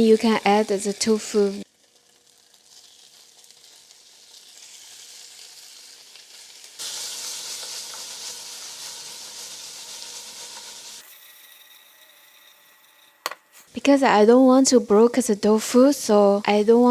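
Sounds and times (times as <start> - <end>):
oil sizzling in a pan: 0.0 - 16.9.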